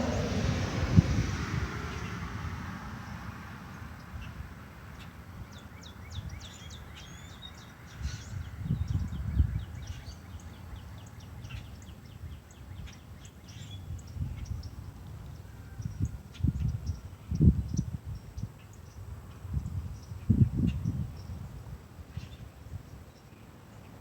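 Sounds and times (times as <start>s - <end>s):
low rumbles of wind on microphone: 0.0s - 24.0s.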